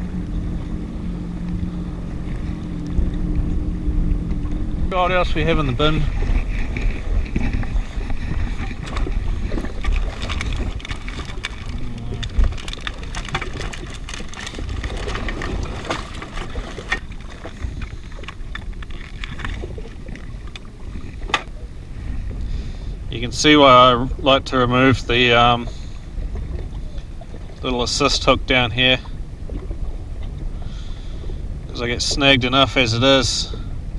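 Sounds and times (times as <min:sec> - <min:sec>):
water against hull: 0:00.0 - 0:33.9
wind on microphone: 0:00.0 - 0:33.9.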